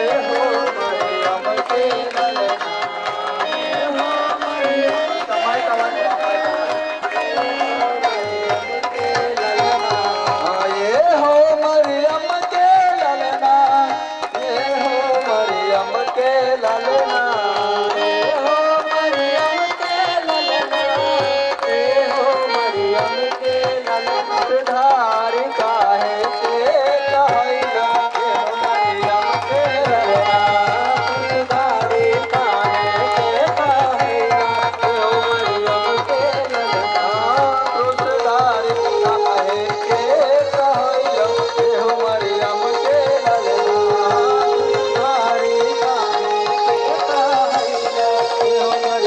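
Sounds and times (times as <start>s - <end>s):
man singing into microphone: 0.0s - 49.0s
tabla: 0.0s - 49.0s.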